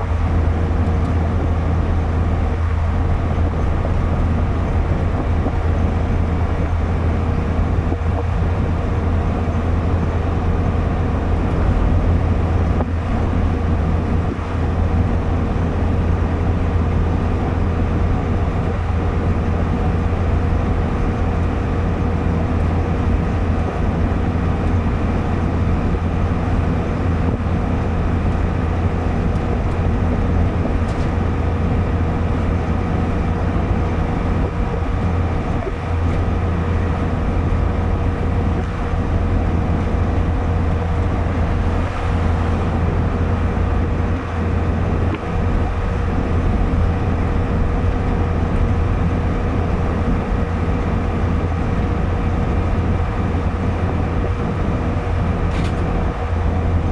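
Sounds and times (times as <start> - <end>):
car engine and tyre drone: 0.0 - 56.9.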